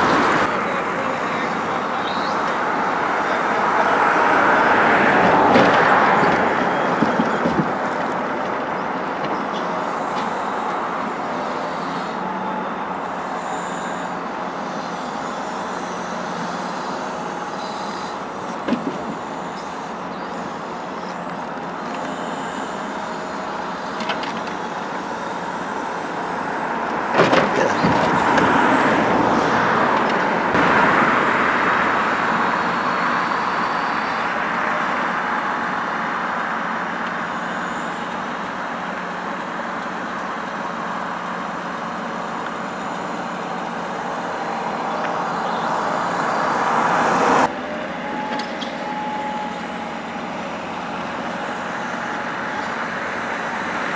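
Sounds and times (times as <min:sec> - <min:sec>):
crane hydraulics: 0:00.0 - 0:53.9
truck engine running: 0:00.0 - 0:53.9.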